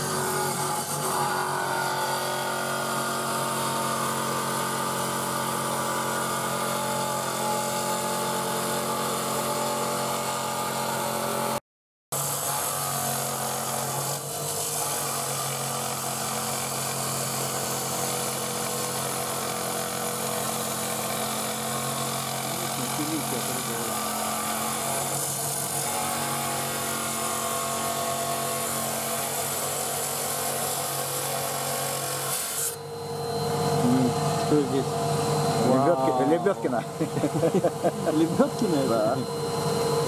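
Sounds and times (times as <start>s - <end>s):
saw motor hum: 0.0s - 11.6s, 12.2s - 40.0s.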